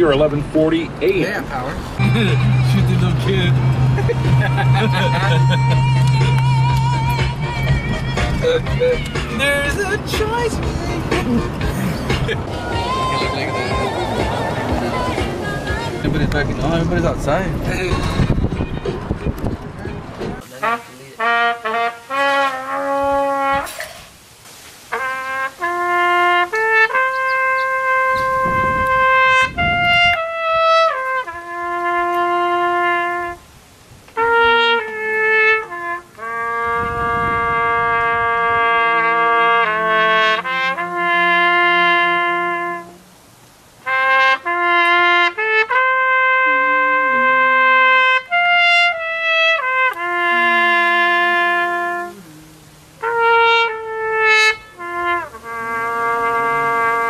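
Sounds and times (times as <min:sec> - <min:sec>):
solo trumpet melody: 0:02.0 - 0:16.1, 0:20.4 - 0:24.2, 0:24.8 - 0:43.2, 0:43.8 - 0:57.0.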